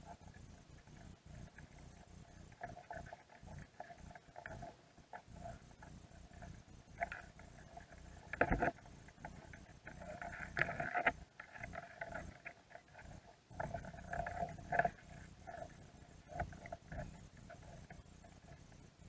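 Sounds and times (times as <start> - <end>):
crabs scraping on mesh underwater: 0.0 - 18.7.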